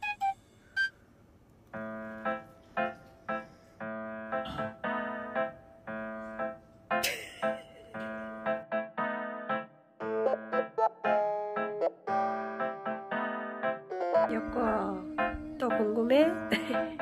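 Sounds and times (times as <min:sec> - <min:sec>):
electric piano chords: 0:01.7 - 0:17.0.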